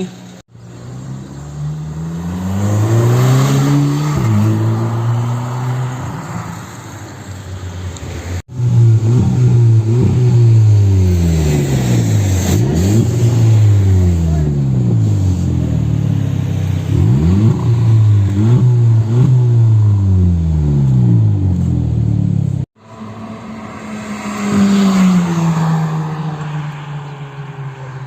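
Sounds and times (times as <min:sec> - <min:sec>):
car engine revving: 0:00.5 - 0:06.8, 0:08.5 - 0:28.0.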